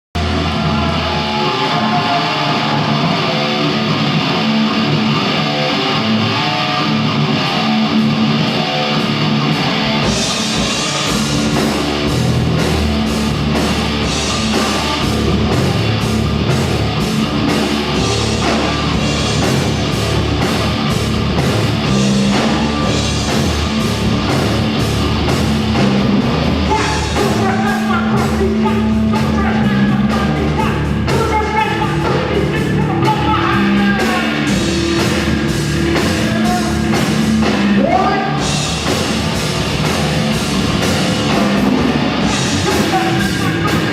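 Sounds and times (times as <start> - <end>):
rock band playing live: 0.2 - 43.9
drum kit beat: 6.3 - 43.9.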